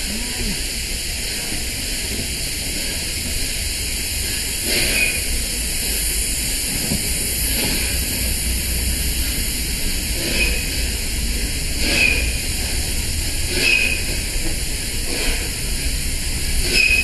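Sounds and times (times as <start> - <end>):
train coaches rolling past: 0.0 - 17.0.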